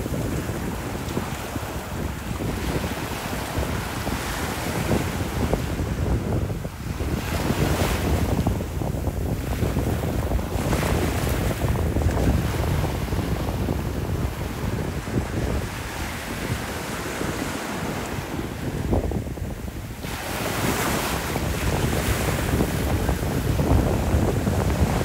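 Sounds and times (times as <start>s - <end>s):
small waves breaking on beach: 0.0s - 25.0s
wind rumbling on microphone: 0.0s - 25.0s.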